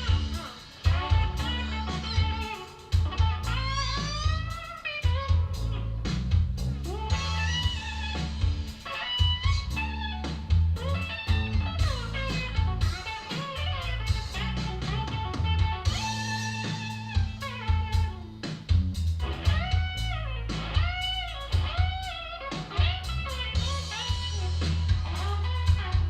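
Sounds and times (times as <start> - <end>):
blues-rock music: 0.0 - 26.0
electric guitar lead: 0.0 - 26.0.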